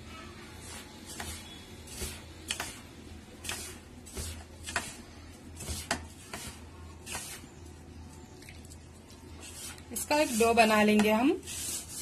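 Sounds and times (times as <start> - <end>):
hand mixing dough in a metal bowl: 0.4 - 12.0.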